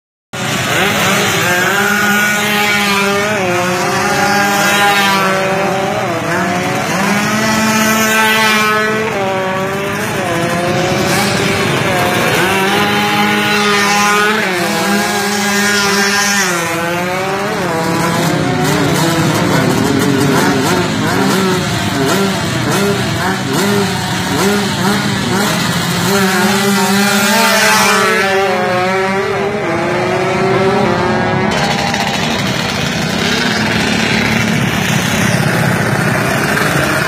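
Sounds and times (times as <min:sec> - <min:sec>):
motorcycle engines revving: 0:00.4 - 0:37.0
steady engine drone: 0:00.4 - 0:37.0.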